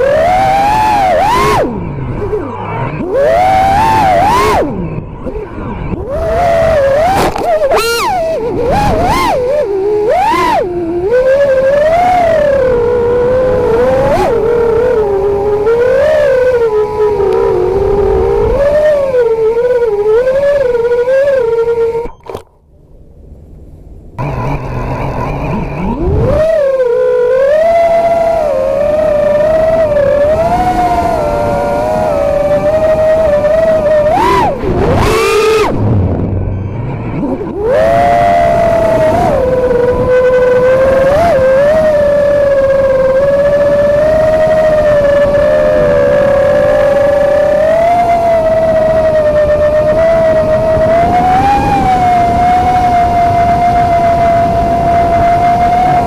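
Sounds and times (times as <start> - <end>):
quadcopter motors whining: 0.0 - 22.5, 24.2 - 56.0.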